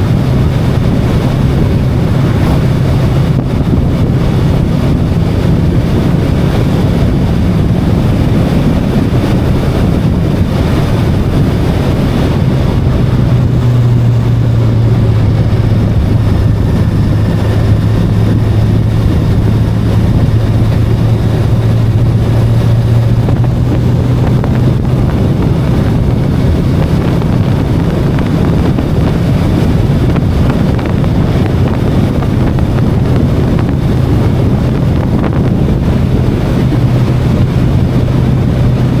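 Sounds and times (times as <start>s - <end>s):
motorcycle engine cruising: 0.0s - 39.0s
wind rush on microphone: 0.0s - 39.0s.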